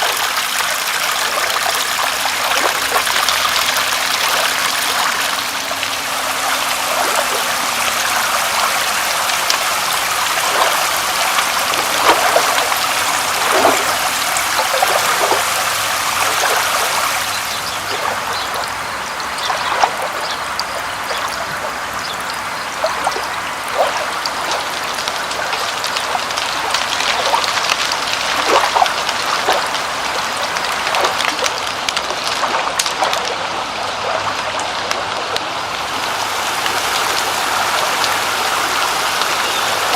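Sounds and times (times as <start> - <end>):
drops splashing: 0.0 - 39.9
steady rain: 0.0 - 39.9
water trickling: 0.0 - 39.9.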